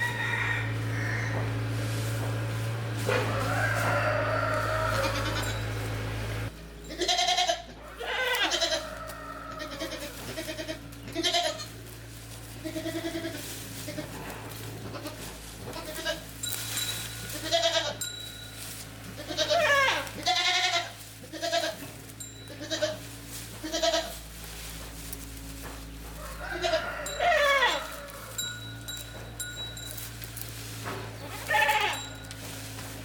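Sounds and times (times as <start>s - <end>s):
steady low hum: 0.0s - 7.2s, 8.6s - 33.0s
goats bleating: 0.0s - 16.5s, 17.2s - 18.1s, 19.0s - 29.5s, 30.3s - 33.0s.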